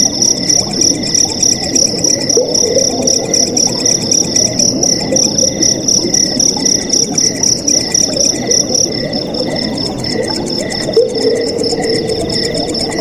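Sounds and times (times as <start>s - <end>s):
crickets chirping: 0.0s - 13.0s
flowing water: 0.0s - 13.0s.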